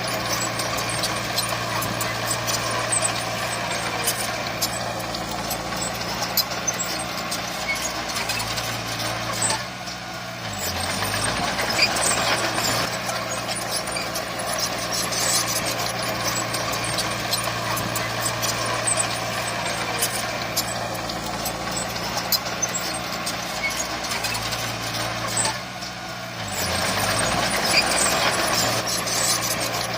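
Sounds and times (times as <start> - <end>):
heavy diesel machinery running: 0.0 - 29.9.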